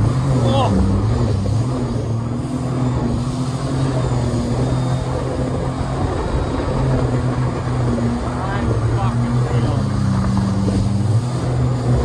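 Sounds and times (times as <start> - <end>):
boat engine droning: 0.0 - 12.0
water rushing along hull: 0.0 - 12.0.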